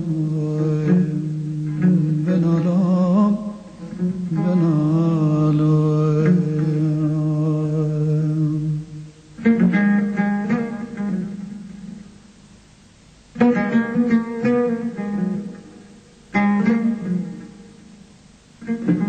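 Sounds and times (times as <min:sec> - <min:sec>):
plucked string instrument: 0:00.0 - 0:12.3, 0:13.3 - 0:19.0.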